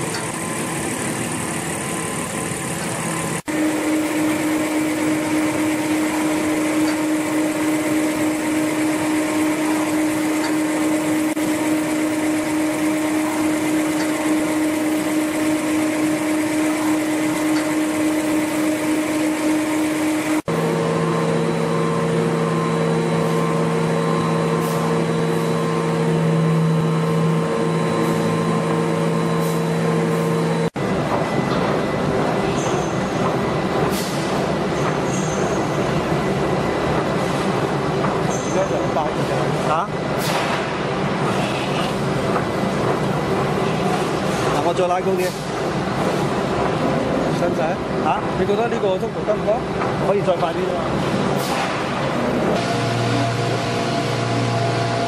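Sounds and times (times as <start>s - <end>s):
machinery droning hum: 0.0s - 55.0s.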